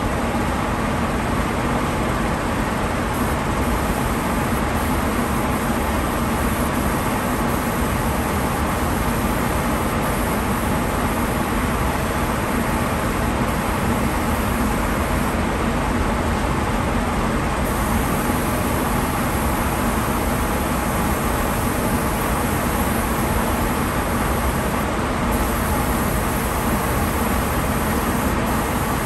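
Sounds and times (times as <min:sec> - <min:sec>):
spray booth air drone: 0:00.0 - 0:29.0
spray gun air rushing: 0:03.1 - 0:15.4, 0:17.6 - 0:29.0.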